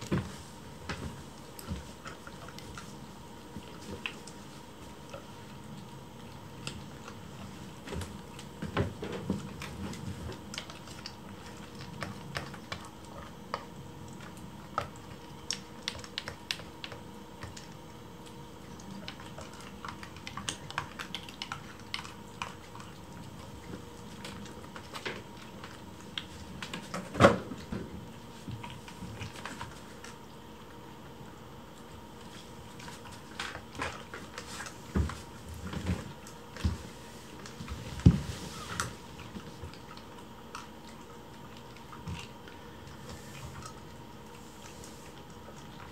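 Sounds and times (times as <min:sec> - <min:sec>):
faint steady hum: 0:00.0 - 0:45.9
kittens licking and chewing: 0:00.0 - 0:45.9.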